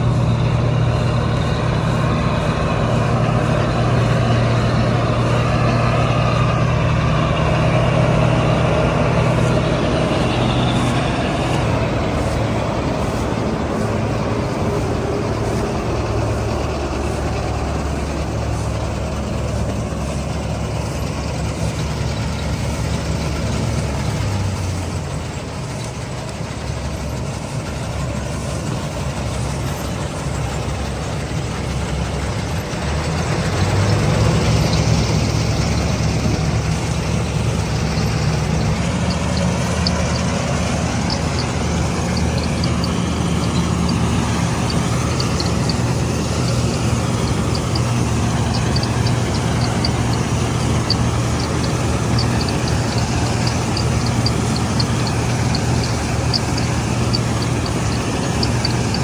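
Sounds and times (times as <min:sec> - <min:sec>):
combine harvester diesel engine: 0:00.0 - 0:59.0.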